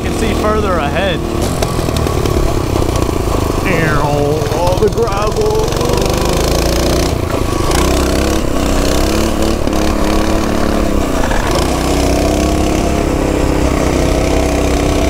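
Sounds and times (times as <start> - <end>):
tyres on gravel: 0.0 - 13.9
mini bike engine running: 0.0 - 15.0.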